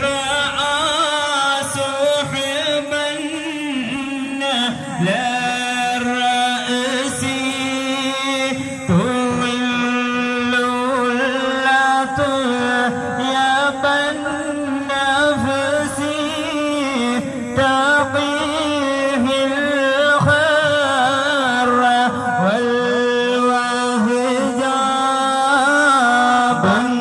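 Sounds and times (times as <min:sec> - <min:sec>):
men chanting devotional song: 0:00.0 - 0:27.0.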